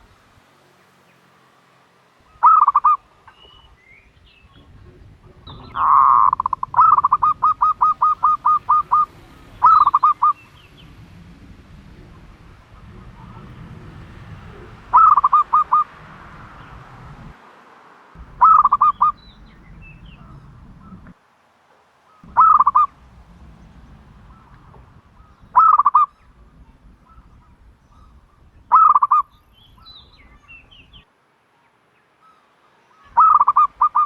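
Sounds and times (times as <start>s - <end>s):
small birds chirping: 0.0s - 17.4s, 18.2s - 34.0s
dove cooing: 2.3s - 17.4s, 18.2s - 21.2s, 22.1s - 31.0s, 32.2s - 34.0s.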